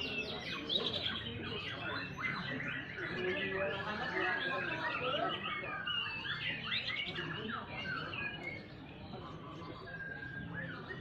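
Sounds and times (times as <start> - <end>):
bird singing whistles and chirps: 0.0 - 11.0.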